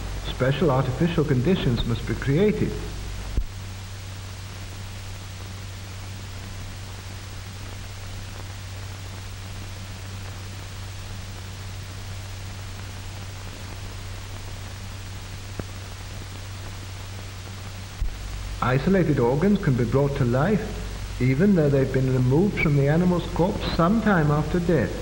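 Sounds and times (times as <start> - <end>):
low hum: 0.0 - 9.2, 10.8 - 25.0
steady hiss: 0.0 - 25.0.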